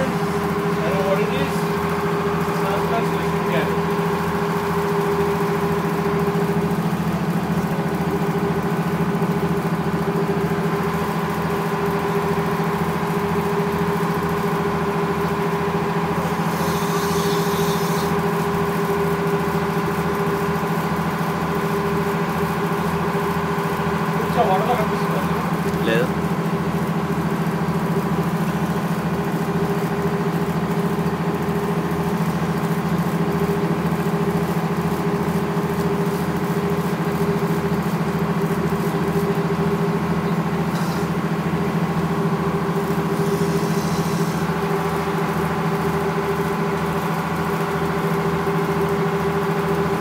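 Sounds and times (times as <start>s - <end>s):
boat engine throbbing: 0.0s - 50.0s.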